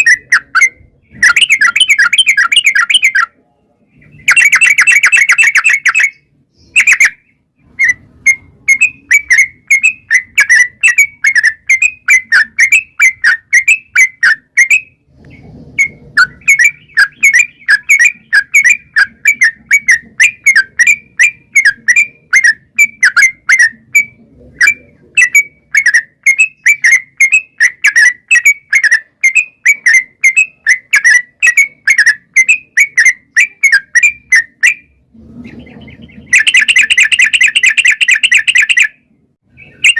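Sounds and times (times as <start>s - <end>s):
bird singing whistled notes: 0.0s - 3.4s, 4.0s - 35.0s, 35.6s - 39.9s.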